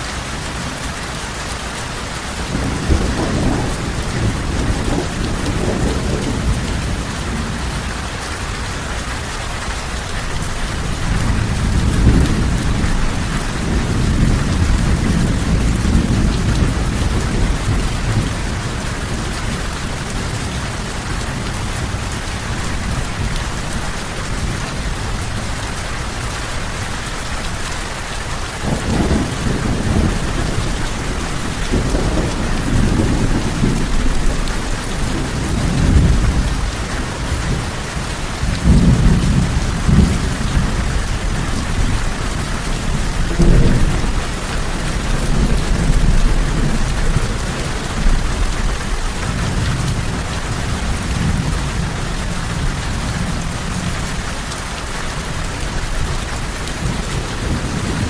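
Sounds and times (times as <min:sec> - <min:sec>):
heavy rain hissing: 0:00.0 - 0:58.0
rolling thunder: 0:02.4 - 0:08.2, 0:10.2 - 0:54.3, 0:55.1 - 0:58.0.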